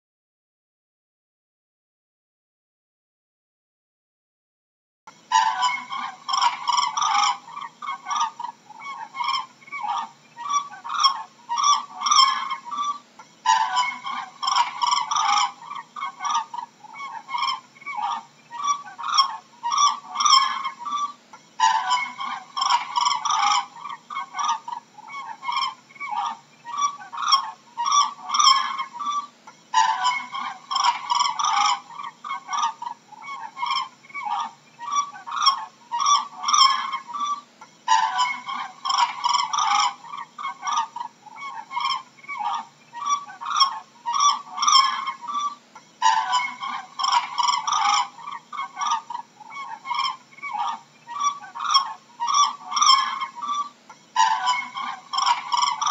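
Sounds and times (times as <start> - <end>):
cranes calling: 5.3 - 55.9.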